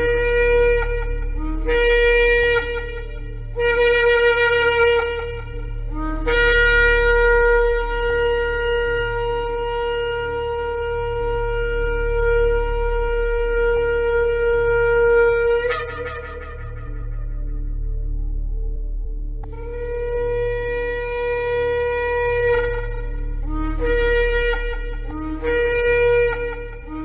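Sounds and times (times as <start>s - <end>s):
shofar blasts: 0.0s - 18.3s, 19.4s - 27.0s
low steady hum: 0.0s - 27.0s.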